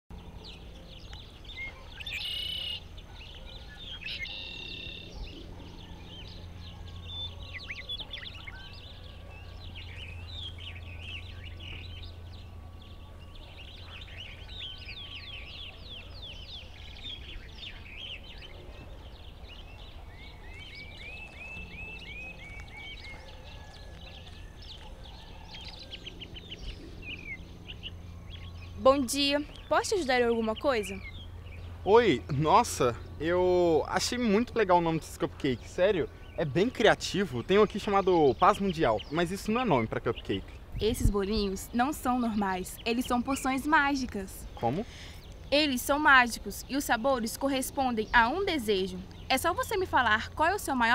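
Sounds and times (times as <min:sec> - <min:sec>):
birds chirping and trilling: 0:00.1 - 0:50.9
low steady hum: 0:00.1 - 0:50.9.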